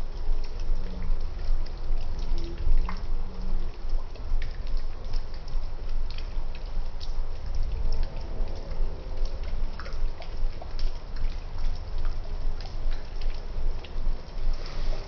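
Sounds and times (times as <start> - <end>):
water dripping: 0.0 - 15.0.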